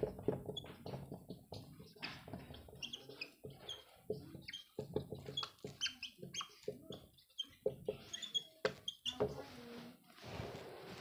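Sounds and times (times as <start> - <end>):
marker pen squeaking on whiteboard: 0.0 - 9.4.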